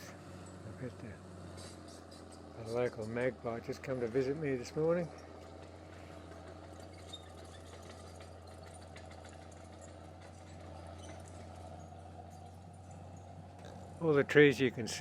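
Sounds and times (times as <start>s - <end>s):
distant motor hum: 0.0s - 15.0s
faint outdoor background: 0.0s - 15.0s.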